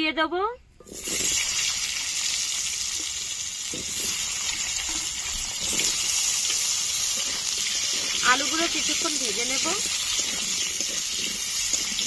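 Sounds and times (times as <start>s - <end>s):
potatoes sizzling in oil: 0.9s - 12.0s.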